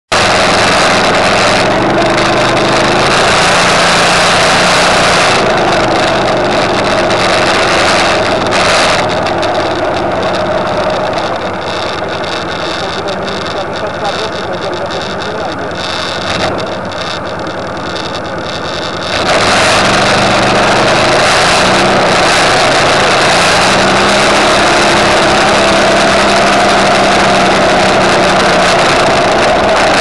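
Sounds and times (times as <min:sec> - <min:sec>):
vehicle engine running: 0:00.0 - 0:30.0
tyres rushing on gravel: 0:00.1 - 0:30.0.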